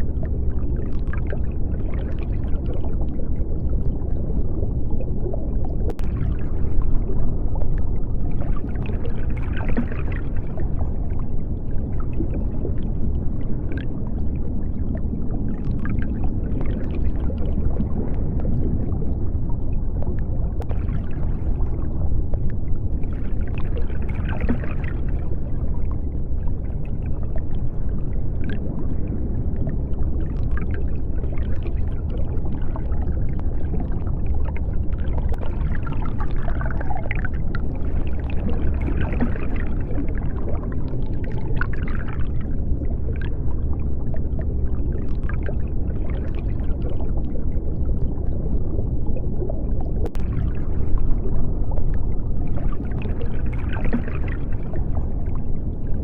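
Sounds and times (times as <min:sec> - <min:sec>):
deep underwater rumble: 0:00.0 - 0:56.0
gurgling bubbles: 0:00.0 - 0:56.0.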